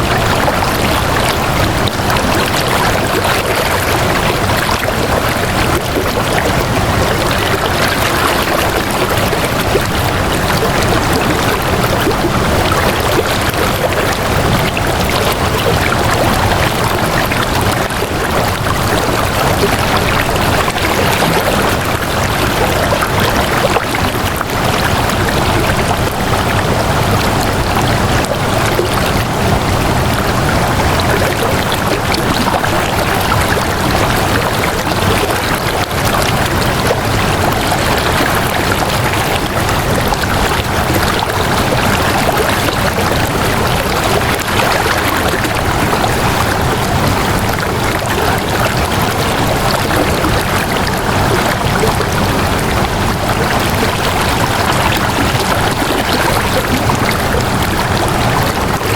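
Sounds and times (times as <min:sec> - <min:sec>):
water flowing: 0:00.0 - 0:58.9.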